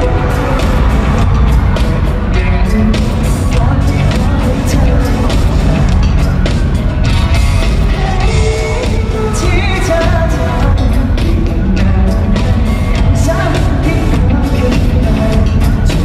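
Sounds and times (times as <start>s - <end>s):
live pop band playing: 0.0s - 16.0s
person singing: 0.0s - 16.0s.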